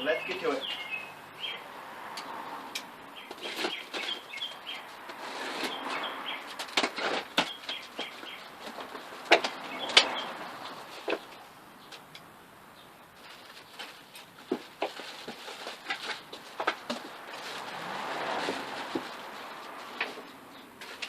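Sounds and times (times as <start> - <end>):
small birds chirping: 0.0 - 17.6, 18.5 - 21.0
knocks and clacks of handling: 2.8 - 12.2, 13.2 - 21.0.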